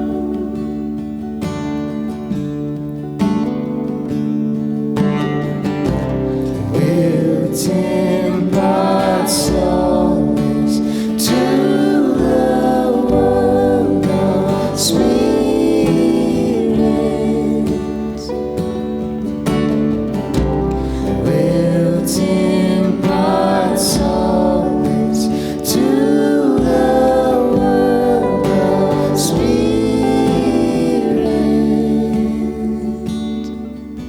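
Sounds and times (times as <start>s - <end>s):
voices singing: 0.0s - 1.5s, 6.2s - 34.0s
acoustic guitar: 0.0s - 34.0s.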